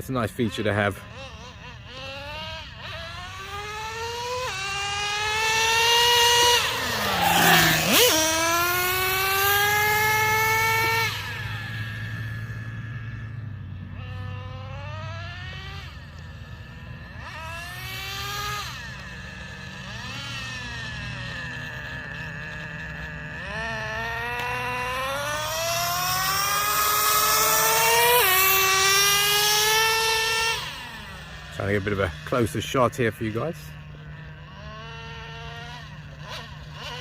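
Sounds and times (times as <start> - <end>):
nitro engine revving: 0.0 - 37.0.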